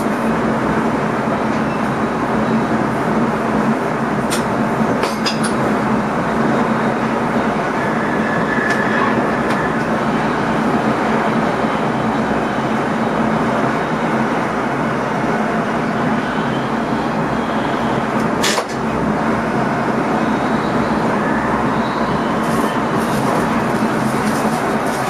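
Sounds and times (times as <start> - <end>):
wheels rumbling on track: 0.0 - 25.0.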